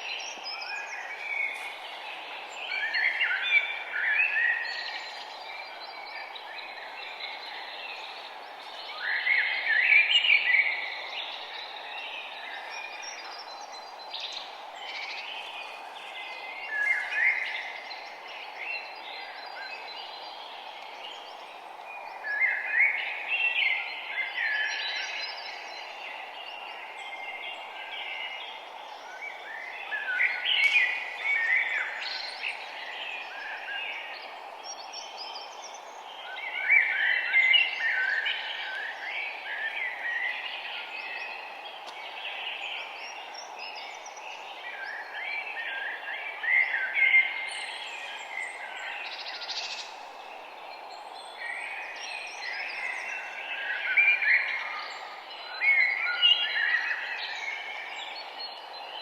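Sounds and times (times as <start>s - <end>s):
songbirds chirping and singing: 0.0s - 59.0s
steady background hiss: 0.0s - 59.0s.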